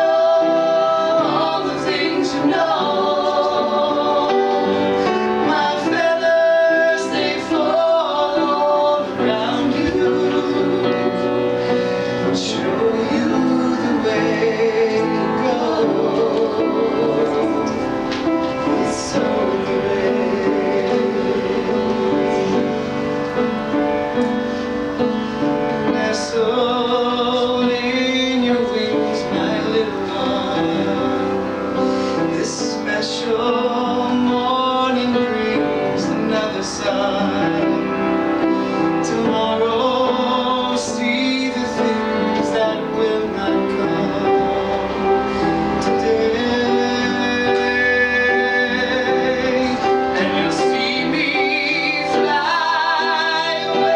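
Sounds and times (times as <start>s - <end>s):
music with singing: 0.0s - 53.9s.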